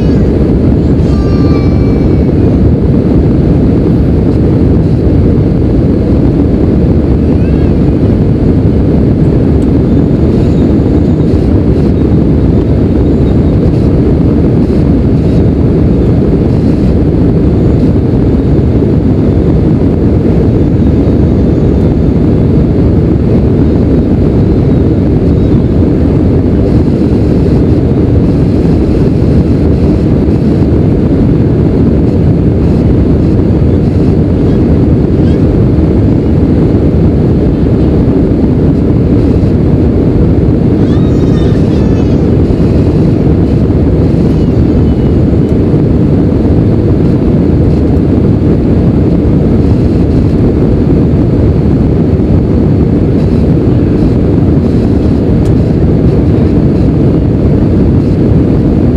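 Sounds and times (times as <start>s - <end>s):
jet engine and airflow roar: 0.0s - 58.9s.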